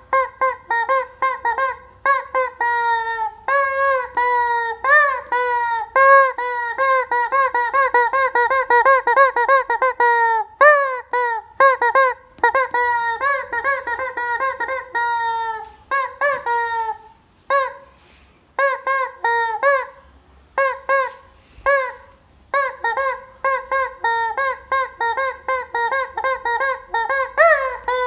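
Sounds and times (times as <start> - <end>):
rubber chicken toy honking: 0.0 - 18.0, 18.6 - 28.0.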